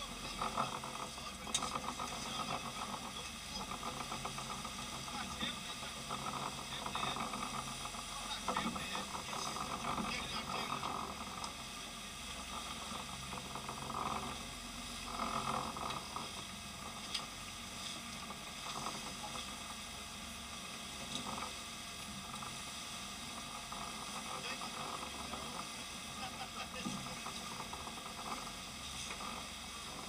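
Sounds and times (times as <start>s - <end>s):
boat engine drone: 0.0s - 30.0s
boat wake churning: 0.0s - 30.0s.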